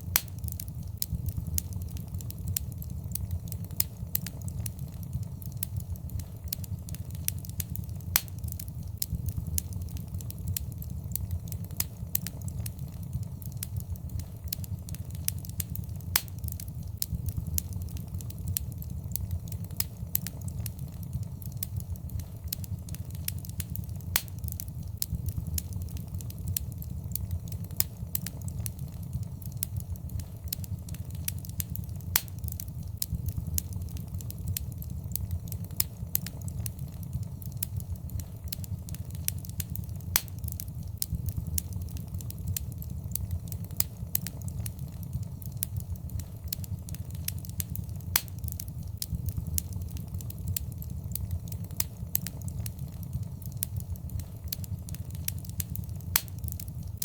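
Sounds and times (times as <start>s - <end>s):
fire snaps and pops: 0.0s - 57.0s
low rumble of flames: 0.0s - 57.0s.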